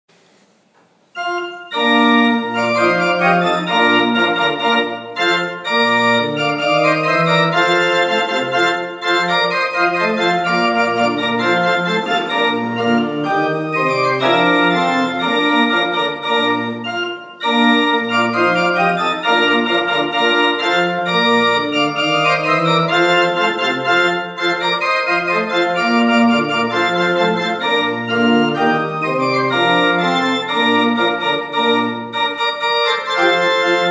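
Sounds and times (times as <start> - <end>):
pipe organ playing a march: 1.1 - 33.9.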